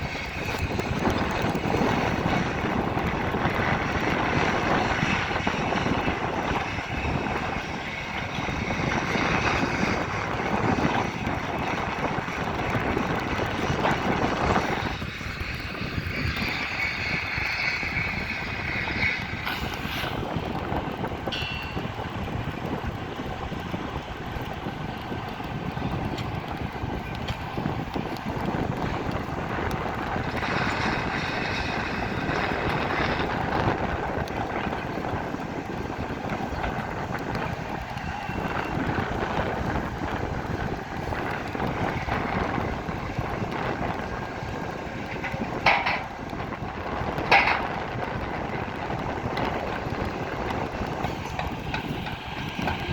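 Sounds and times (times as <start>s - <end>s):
construction machinery rumble: 0.0s - 52.9s
wind on microphone: 0.0s - 52.9s.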